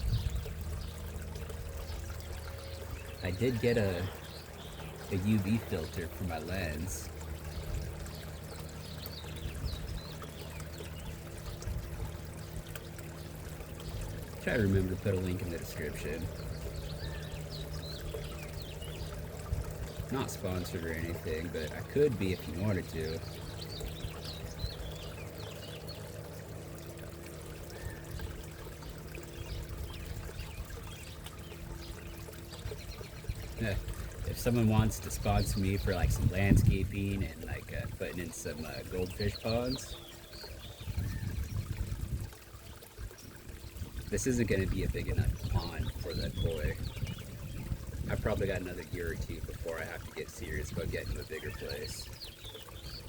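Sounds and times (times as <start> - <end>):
water trickling into pond: 0.0 - 53.0.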